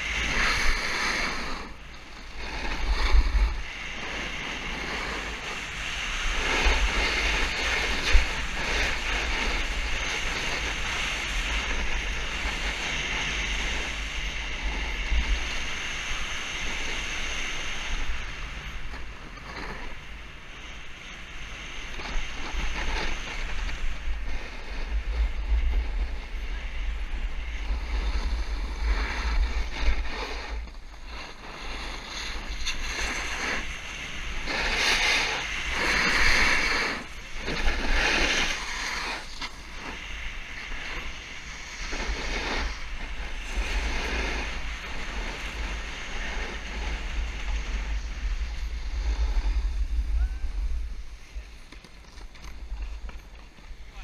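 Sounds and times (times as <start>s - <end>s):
snowboard scraping over snow: 0.0s - 54.0s
wind buffeting microphone: 0.0s - 54.0s.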